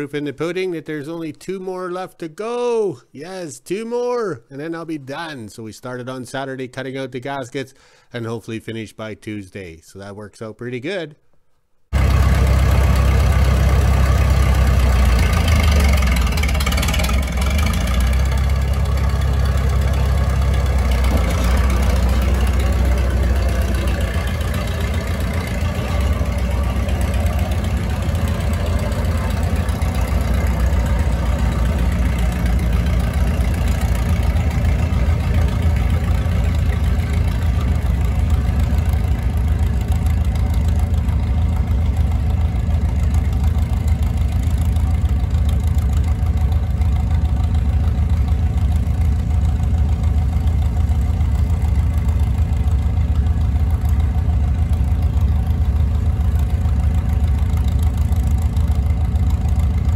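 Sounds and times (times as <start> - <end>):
bulldozer diesel engine running: 11.9 - 59.9.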